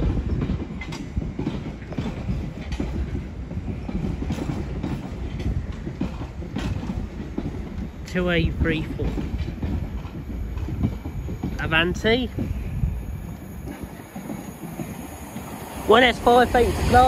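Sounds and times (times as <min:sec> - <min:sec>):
train rumbling: 0:00.0 - 0:17.0
wheels clicking over rail joints: 0:00.0 - 0:17.0.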